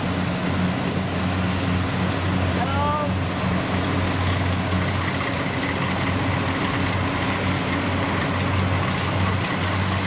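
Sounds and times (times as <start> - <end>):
farm machine engine humming: 0.0 - 10.0.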